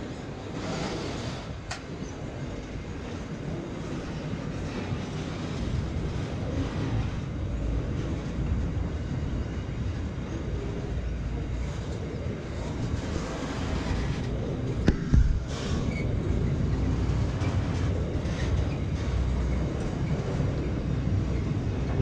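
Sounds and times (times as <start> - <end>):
freight wagons rumbling on rails: 0.0 - 22.0.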